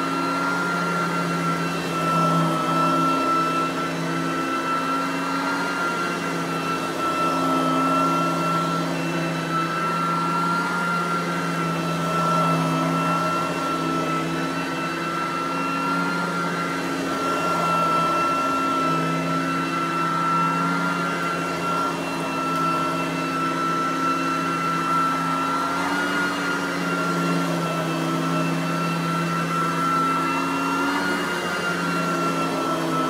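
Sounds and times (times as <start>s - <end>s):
vacuum cleaner whining on carpet: 0.0s - 33.0s.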